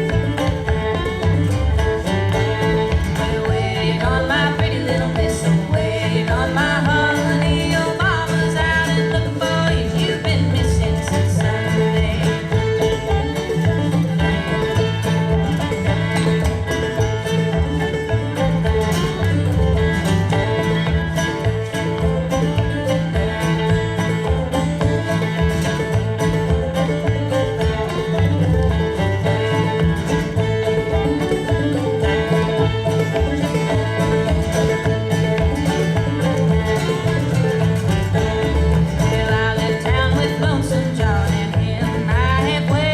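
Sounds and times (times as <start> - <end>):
upbeat bluegrass music: 0.0 - 42.9.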